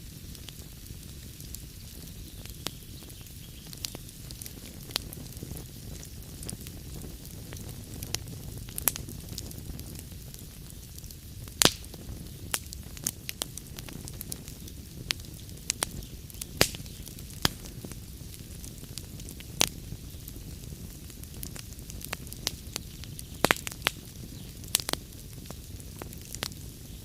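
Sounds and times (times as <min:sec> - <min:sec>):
log fire crackling: 0:00.0 - 0:27.0
low rumble and hiss of fire: 0:00.0 - 0:27.0.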